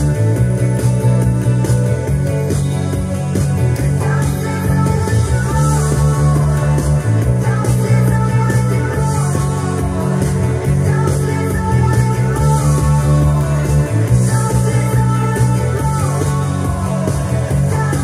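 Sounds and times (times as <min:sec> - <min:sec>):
bass guitar plucked: 0:00.0 - 0:18.0
rock music: 0:00.0 - 0:18.0.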